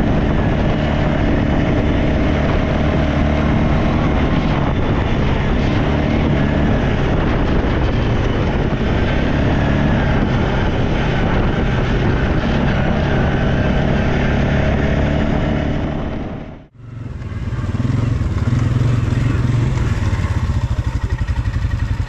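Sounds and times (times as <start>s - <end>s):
engine running under load: 0.0s - 22.0s.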